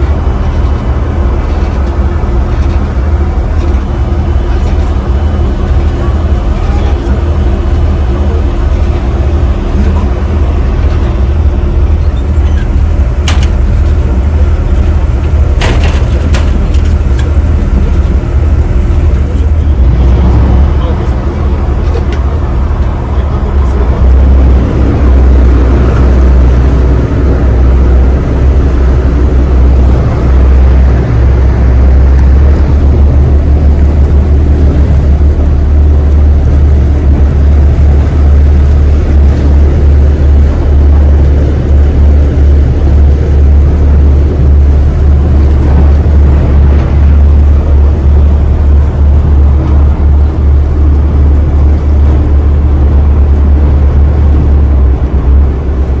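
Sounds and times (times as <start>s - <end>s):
low ship engine rumble: 0.0s - 56.0s.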